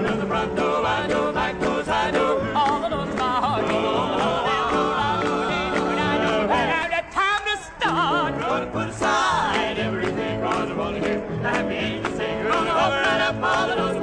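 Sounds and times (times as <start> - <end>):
male quartet singing: 0.0 - 14.0.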